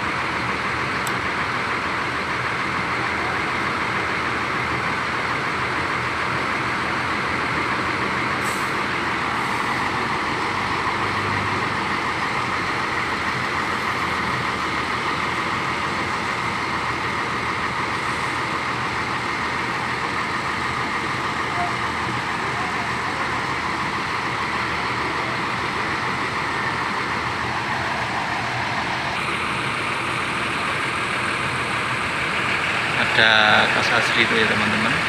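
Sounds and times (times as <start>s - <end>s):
bus engines running: 0.0s - 35.0s
traffic noise: 0.0s - 35.0s.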